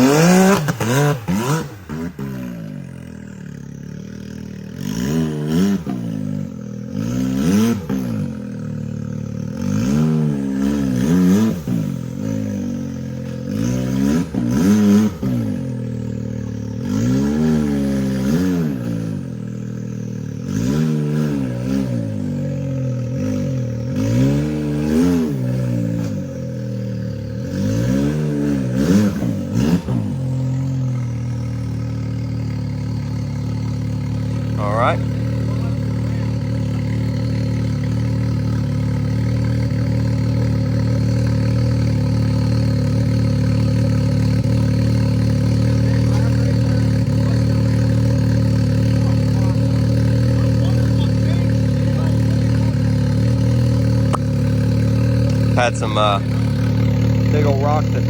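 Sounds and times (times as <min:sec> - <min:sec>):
engine idling: 0:00.0 - 0:58.0
utility vehicle engine revving: 0:00.0 - 0:58.0.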